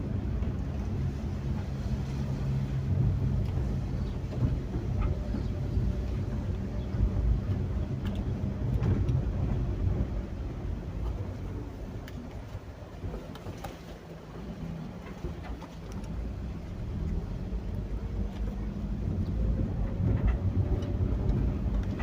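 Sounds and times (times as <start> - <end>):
strong wind: 0.0 - 22.0.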